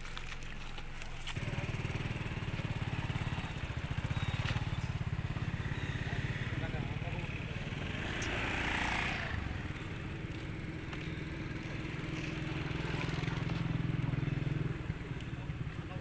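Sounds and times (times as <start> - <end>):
small engine running: 1.3 - 16.0.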